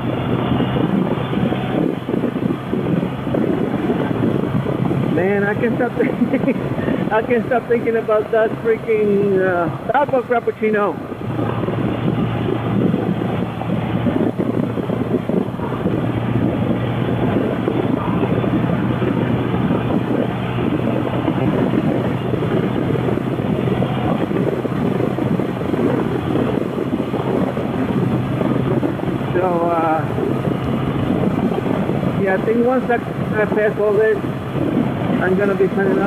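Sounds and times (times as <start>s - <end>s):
motorcycle engine drone: 0.0s - 36.0s
wind rushing over microphone: 0.0s - 36.0s.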